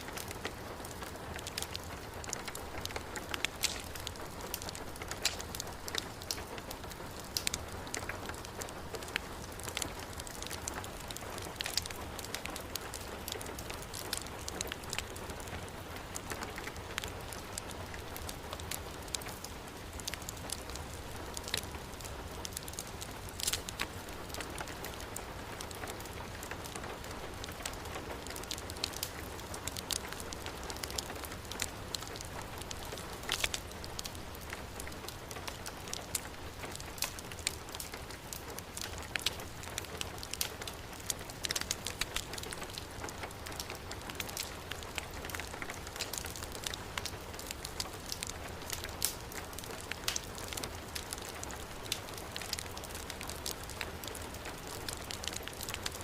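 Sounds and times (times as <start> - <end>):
heavy rain: 0.0 - 56.0
wood fire crackling: 0.0 - 56.0.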